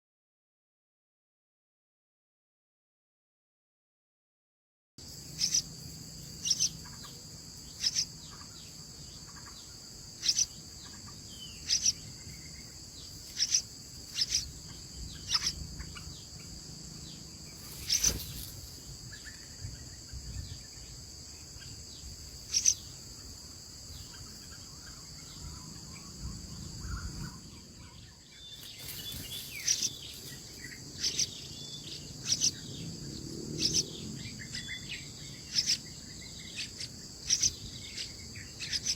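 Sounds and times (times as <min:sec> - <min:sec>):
high insect chorus: 0:05.0 - 0:38.9.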